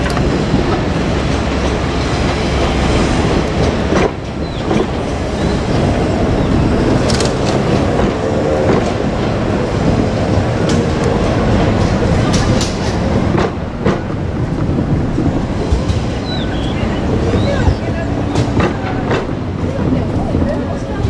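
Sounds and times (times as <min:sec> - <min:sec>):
diesel railcar running past: 0:00.0 - 0:21.0
wheels clacking over rail joints: 0:00.0 - 0:21.0.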